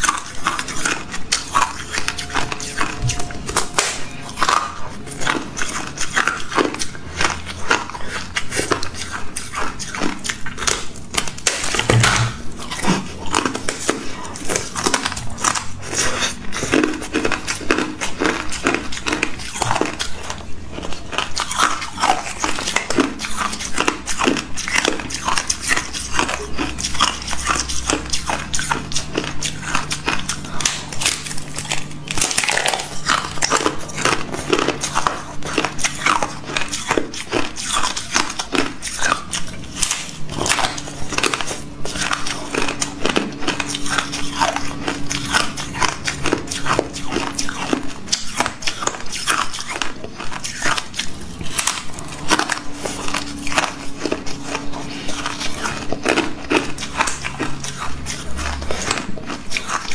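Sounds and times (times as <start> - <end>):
ice being chewed crunching: 0.0 - 59.9.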